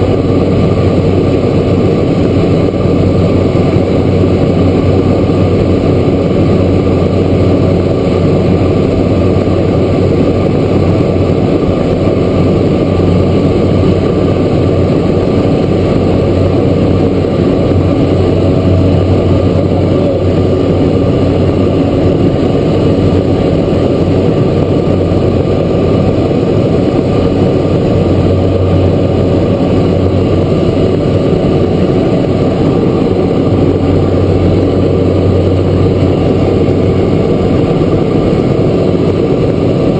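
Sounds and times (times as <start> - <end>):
turboprop engine drone in cabin: 0.0 - 39.9.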